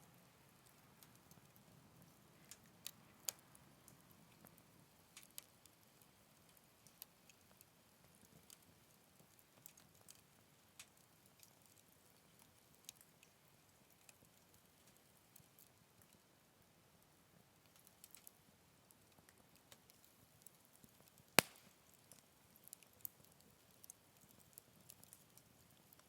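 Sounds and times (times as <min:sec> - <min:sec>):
wood fire crackling: 0:00.3 - 0:26.0.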